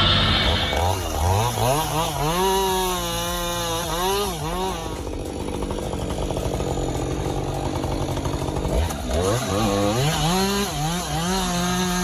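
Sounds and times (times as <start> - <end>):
chainsaw cutting wood: 0.0 - 12.0
chainsaw engine revving: 0.0 - 12.0.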